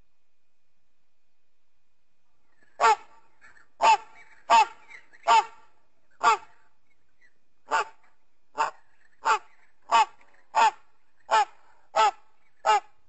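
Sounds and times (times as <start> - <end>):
short loud bird calls: 2.5 - 13.0.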